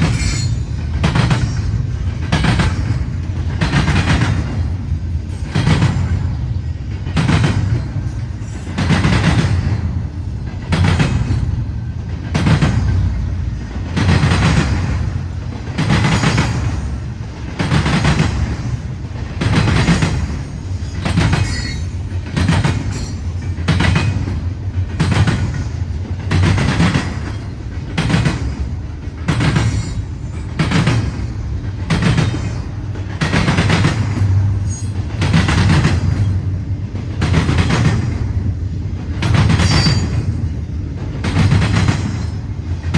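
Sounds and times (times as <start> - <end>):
train rumble: 0.0 - 42.9
train wheels clacking on rail joints: 0.0 - 42.9.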